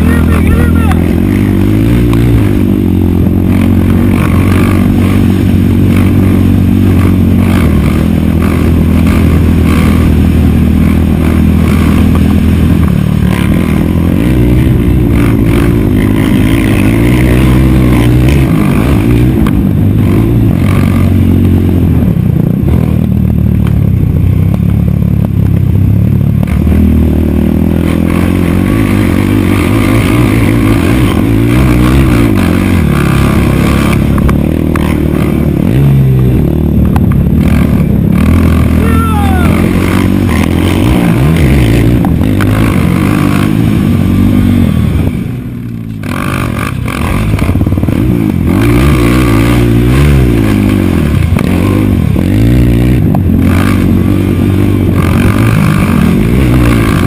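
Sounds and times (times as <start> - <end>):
quad engine under hard throttle: 0.0 - 57.0.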